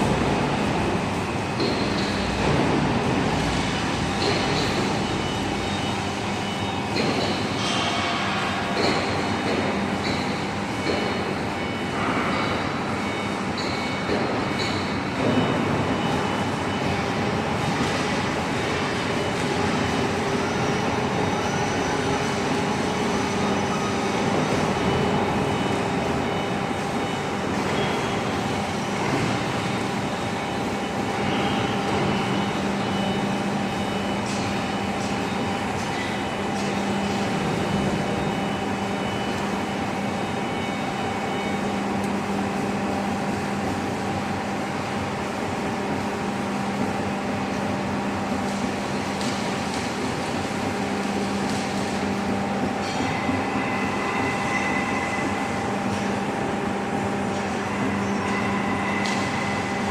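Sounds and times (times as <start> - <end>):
machine noise: 0.0 - 59.9.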